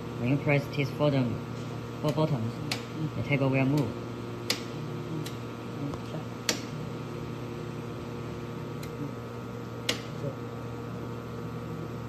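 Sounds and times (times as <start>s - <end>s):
welding machine electrical hum: 0.0s - 12.0s.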